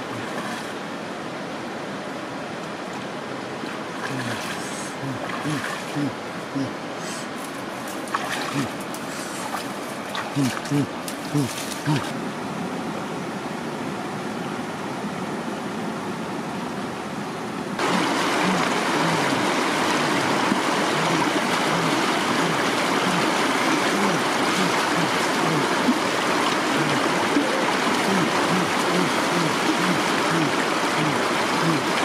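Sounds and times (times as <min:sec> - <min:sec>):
stream water rushing over rocks: 0:00.0 - 0:32.0.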